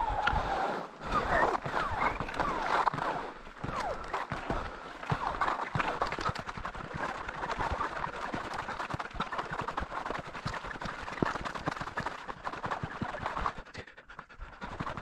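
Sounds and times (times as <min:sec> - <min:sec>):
ski poles planting in snow: 0:00.0 - 0:13.3
skis sliding on snow: 0:00.0 - 0:13.6.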